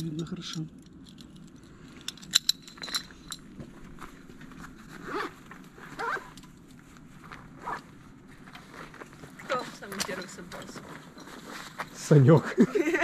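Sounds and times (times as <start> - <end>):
gear rustling and handling: 0.4 - 12.4.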